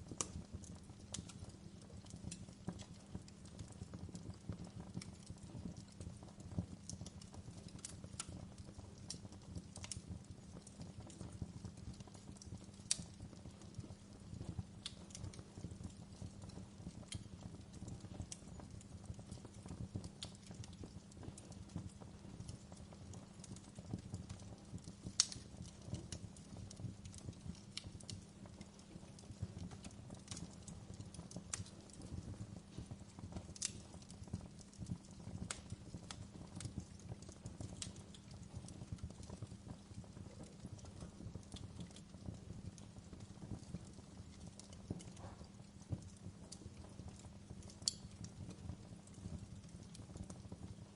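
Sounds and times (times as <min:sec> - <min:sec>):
fire crackling and popping: 0:00.0 - 0:50.9
fire rumbling in fireplace: 0:00.0 - 0:50.9.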